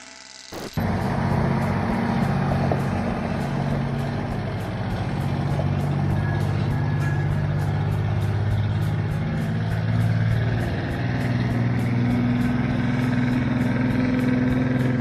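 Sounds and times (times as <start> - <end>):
diesel truck engine running: 0.8 - 15.0.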